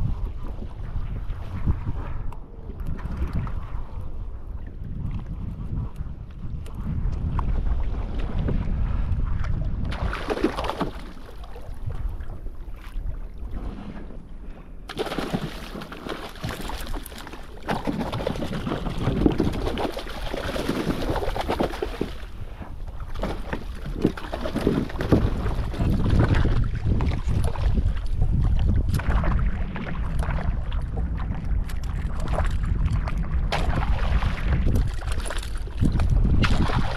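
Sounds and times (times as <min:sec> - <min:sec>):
water splashing against hull: 0:00.0 - 0:36.9
wind rumbling on microphone: 0:00.0 - 0:36.9.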